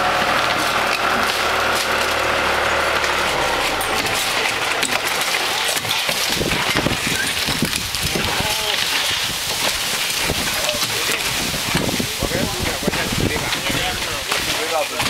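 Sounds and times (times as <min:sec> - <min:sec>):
engine hum: 0:00.0 - 0:15.0
roof shingles scraping and cracking: 0:00.0 - 0:15.0.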